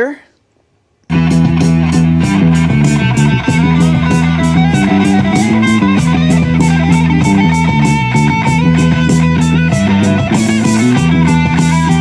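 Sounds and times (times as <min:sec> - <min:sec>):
loud guitar rock music: 0:01.1 - 0:12.0.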